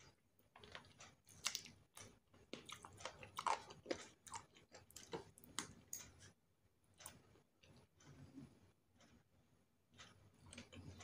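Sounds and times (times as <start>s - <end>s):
person chewing food: 0.0s - 9.2s, 9.9s - 11.0s.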